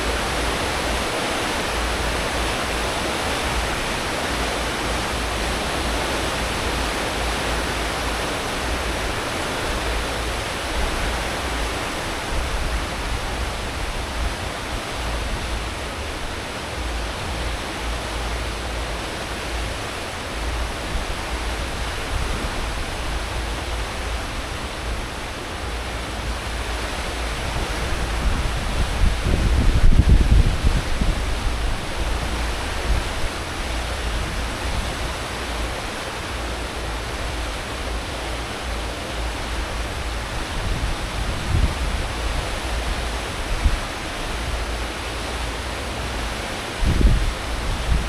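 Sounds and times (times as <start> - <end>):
ship wake water rushing: 0.0 - 48.0.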